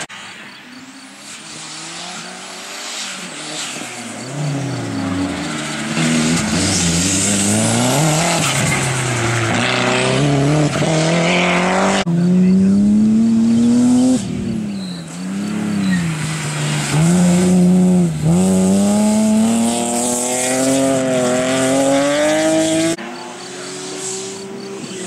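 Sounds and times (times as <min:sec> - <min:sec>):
racing car engine revving: 0:01.3 - 0:25.0.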